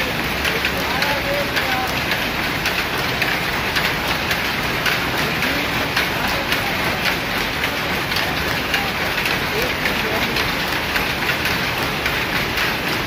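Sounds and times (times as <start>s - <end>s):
power loom clattering: 0.0s - 13.0s.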